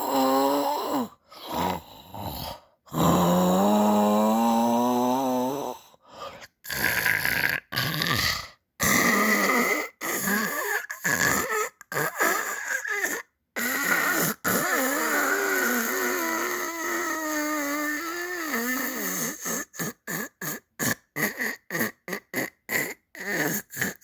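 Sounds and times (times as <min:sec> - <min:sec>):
snoring: 0:00.0 - 0:05.8, 0:06.4 - 0:24.0.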